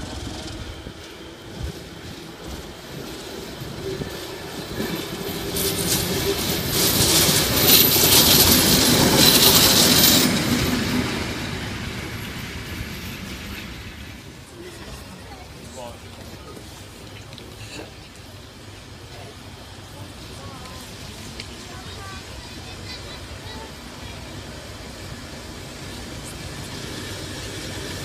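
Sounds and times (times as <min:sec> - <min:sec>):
diesel locomotive passing: 0:00.0 - 0:28.0.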